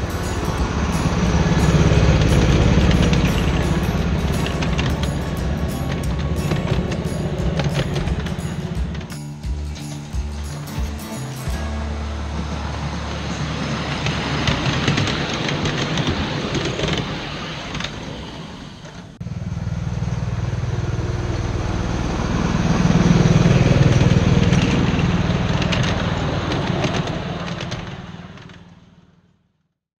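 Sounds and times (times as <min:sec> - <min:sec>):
train cars rattling over rails: 0:00.0 - 0:29.2
small engine drone: 0:00.0 - 0:29.4.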